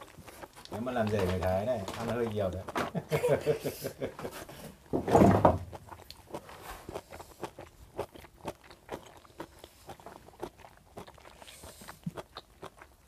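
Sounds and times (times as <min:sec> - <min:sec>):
crunchy chewing: 0:00.0 - 0:04.9, 0:05.6 - 0:13.0.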